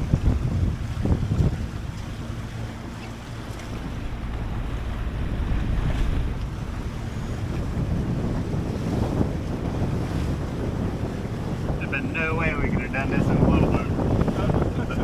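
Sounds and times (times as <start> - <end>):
waves washing around boat: 0.0 - 15.0
wind buffeting microphone: 0.0 - 15.0.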